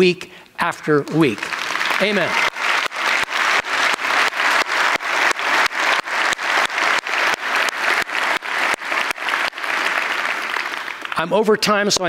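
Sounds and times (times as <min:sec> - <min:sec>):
congregation applauding: 0:01.1 - 0:12.0.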